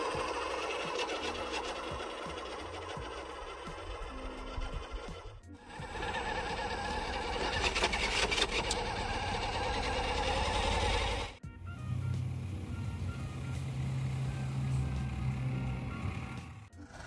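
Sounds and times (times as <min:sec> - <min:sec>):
rattling over rough ground: 0:00.0 - 0:17.0
rc truck motor whining: 0:00.0 - 0:17.0.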